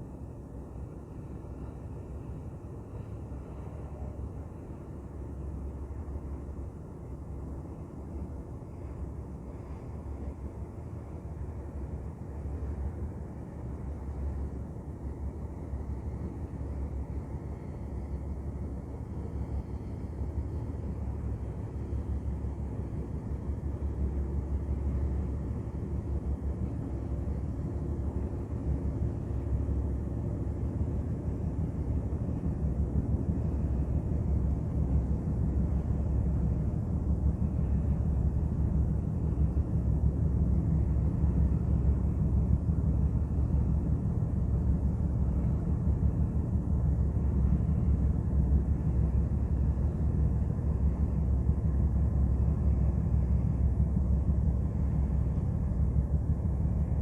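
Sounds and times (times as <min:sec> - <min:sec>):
ship engine rumbling: 0:00.0 - 0:57.0.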